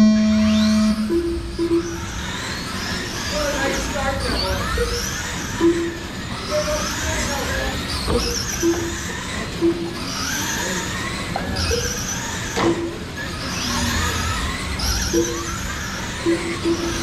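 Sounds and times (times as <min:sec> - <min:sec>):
electric toy car motors whining: 0:00.0 - 0:17.0.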